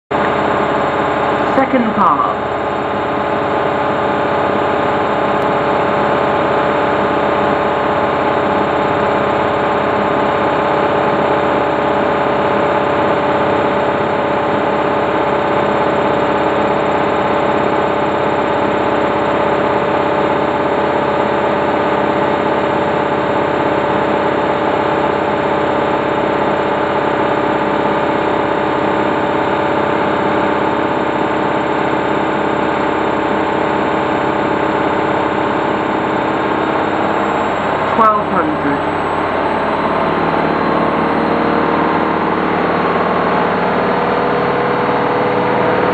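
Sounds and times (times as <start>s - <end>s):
washing machine spinning: 0.1s - 45.9s.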